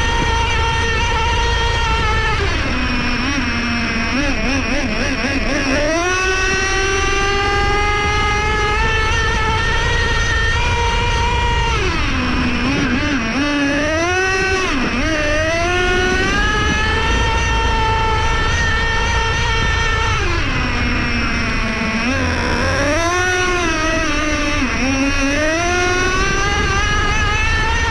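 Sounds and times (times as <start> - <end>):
rc truck engine revving: 0.0 - 27.9.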